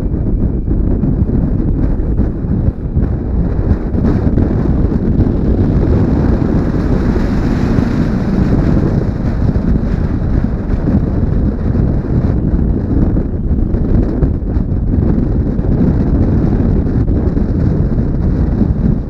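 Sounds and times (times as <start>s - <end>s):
wind buffeting camera: 0.0s - 19.0s.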